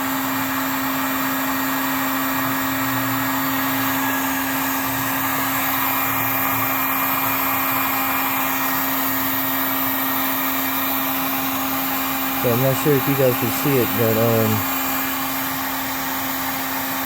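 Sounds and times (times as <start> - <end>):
heat gun running: 0.0 - 17.0.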